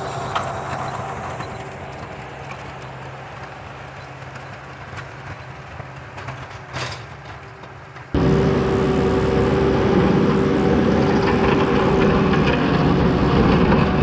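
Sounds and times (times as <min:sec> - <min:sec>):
skid steer engine running: 0:00.0 - 0:14.0.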